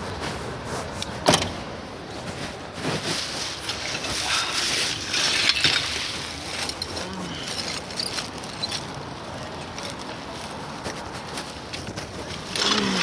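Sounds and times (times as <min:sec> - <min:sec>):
street traffic: 0:00.0 - 0:13.0
hand tools scraping and rattling: 0:02.4 - 0:13.0.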